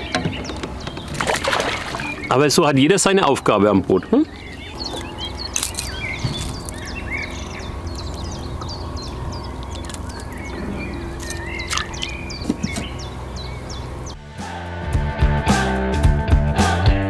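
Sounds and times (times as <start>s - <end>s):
small songbirds chirping: 0.0s - 14.2s
steady low hum: 0.0s - 14.2s.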